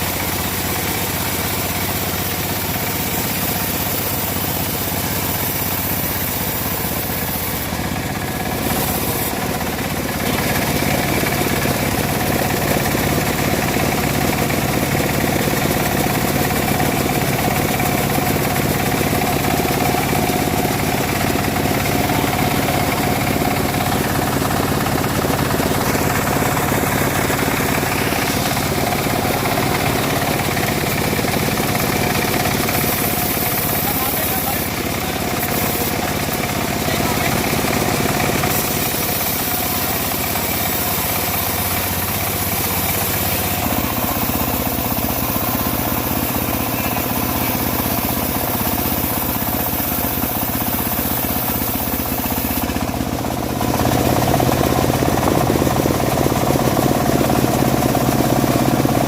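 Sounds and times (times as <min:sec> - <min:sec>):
bandsaw mill engine sawing wood: 0:00.0 - 0:59.0.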